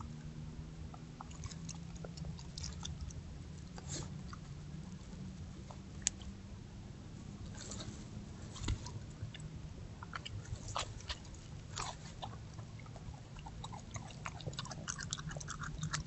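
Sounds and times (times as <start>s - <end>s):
low hum: 0.0s - 16.0s
animal crunching bones: 0.9s - 5.3s, 7.5s - 16.0s.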